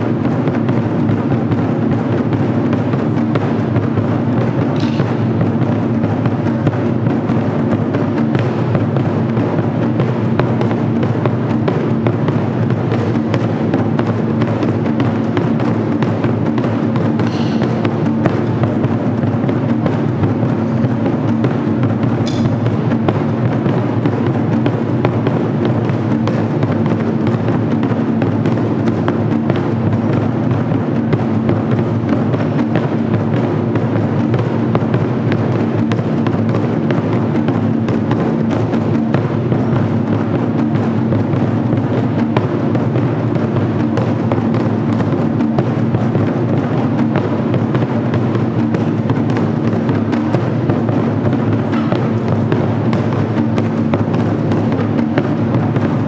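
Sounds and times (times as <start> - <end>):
taiko drums struck with sticks: 0.0 - 56.0.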